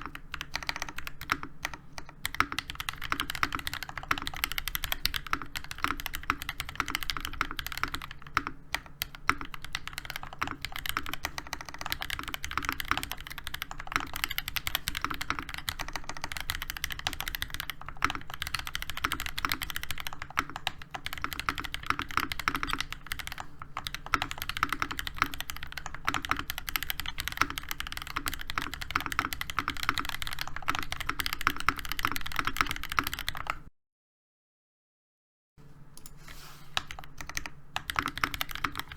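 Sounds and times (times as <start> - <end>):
fast mechanical keyboard typing: 0.0 - 33.7, 36.7 - 38.9.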